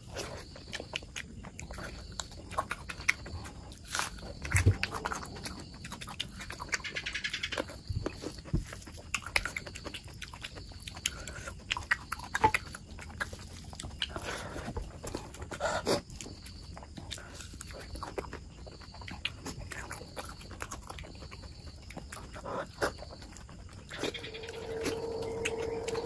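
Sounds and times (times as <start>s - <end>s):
wet chewing and lip-smacking: 0.0s - 26.0s.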